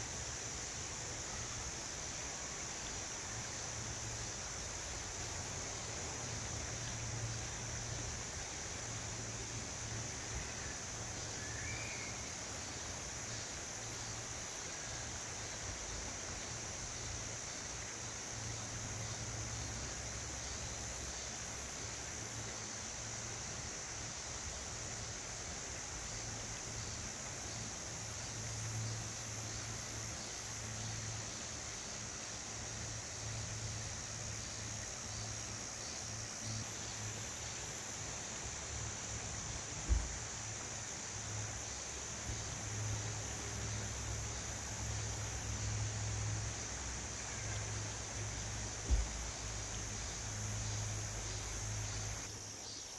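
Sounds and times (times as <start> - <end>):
cicadas chorus: 0.0 - 52.9.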